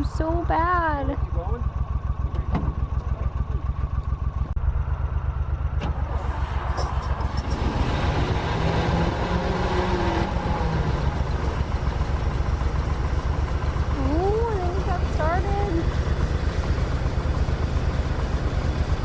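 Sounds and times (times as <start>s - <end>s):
truck engine starting: 0.0s - 19.0s.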